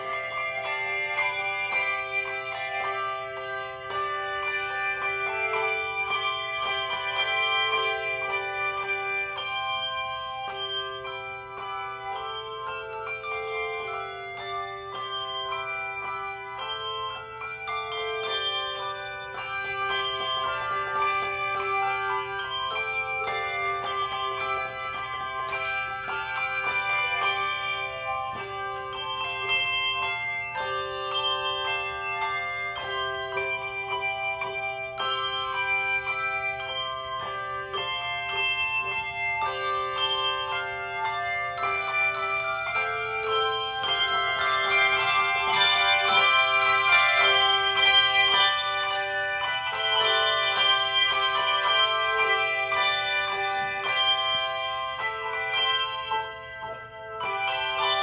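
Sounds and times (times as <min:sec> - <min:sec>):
handbell choir playing: 0:00.0 - 0:58.0.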